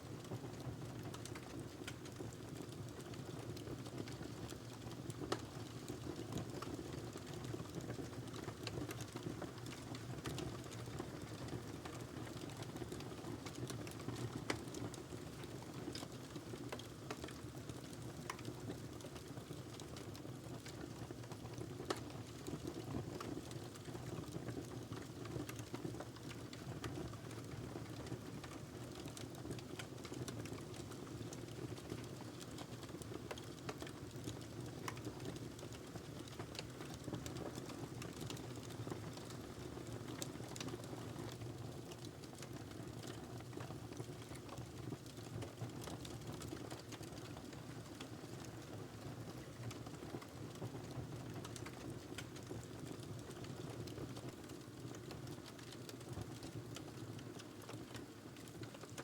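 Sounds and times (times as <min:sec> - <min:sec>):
wood fire crackling: 0:00.5 - 0:59.0.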